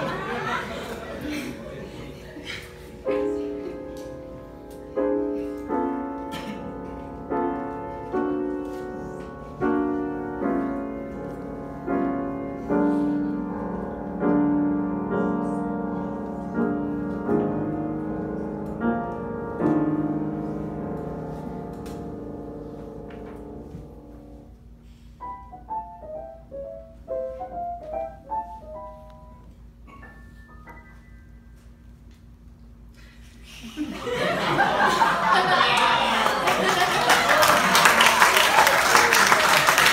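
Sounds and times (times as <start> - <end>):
grand piano chords: 0.0 - 33.3.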